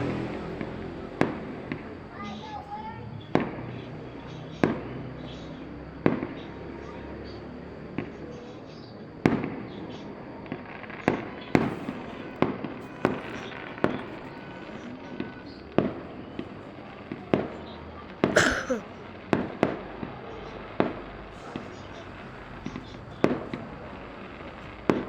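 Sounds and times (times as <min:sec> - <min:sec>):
fireworks bangs with echo: 0:00.0 - 0:04.0, 0:04.6 - 0:05.3, 0:06.0 - 0:25.0.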